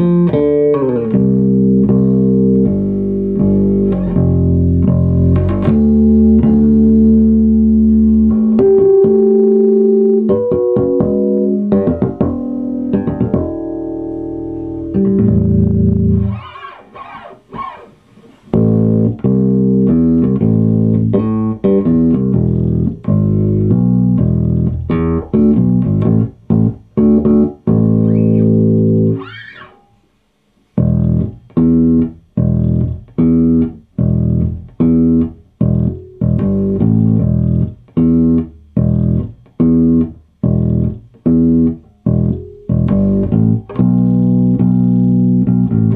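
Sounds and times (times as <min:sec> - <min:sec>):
electric bass guitar notes: 0:00.0 - 0:30.0, 0:30.8 - 0:45.9.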